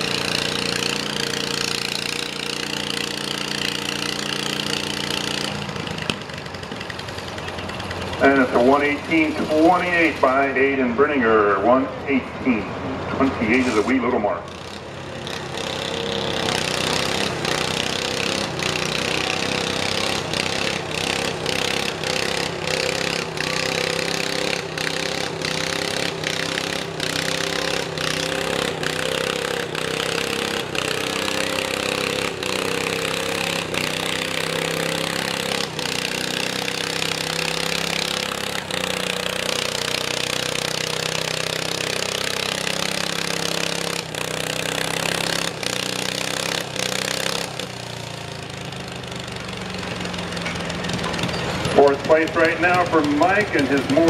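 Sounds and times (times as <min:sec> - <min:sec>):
small tractor engine revving: 0:00.0 - 0:54.0.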